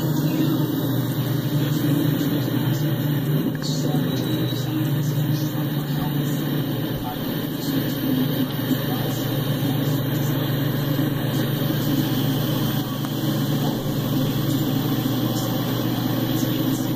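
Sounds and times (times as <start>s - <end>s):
low engine rumble: 0.0s - 16.9s.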